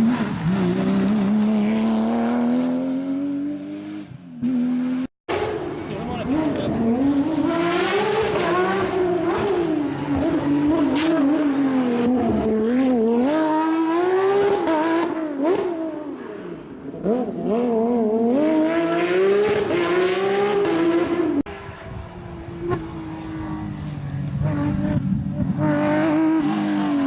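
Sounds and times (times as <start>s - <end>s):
car engine revving hard: 0.0s - 16.0s, 17.0s - 27.0s.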